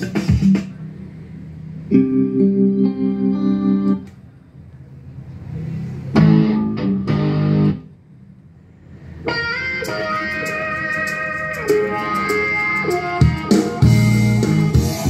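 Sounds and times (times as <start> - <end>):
recorded music through speakers: 0.0 - 4.6, 5.3 - 8.0, 8.9 - 15.0.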